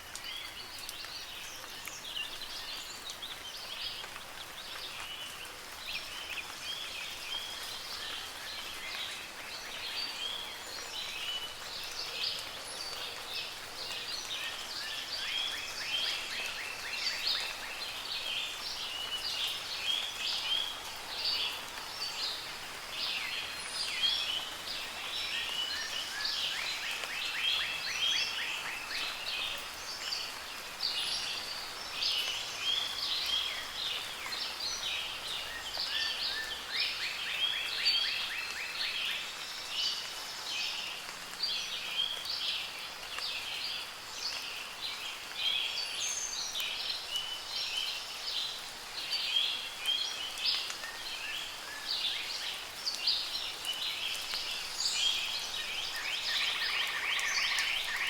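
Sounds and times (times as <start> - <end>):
light rain hiss: 0.0 - 58.0.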